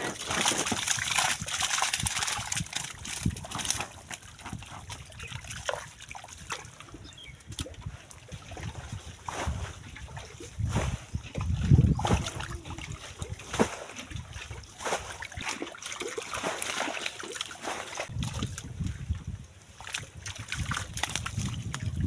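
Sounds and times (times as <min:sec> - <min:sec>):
water splashing and trickling: 0:00.0 - 0:22.0.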